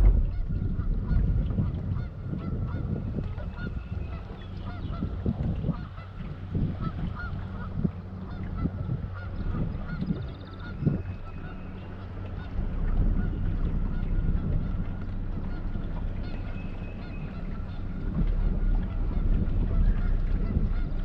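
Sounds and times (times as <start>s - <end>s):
low hum: 0.0s - 21.0s
wind buffeting microphone: 0.0s - 21.0s
geese honking: 2.0s - 21.0s.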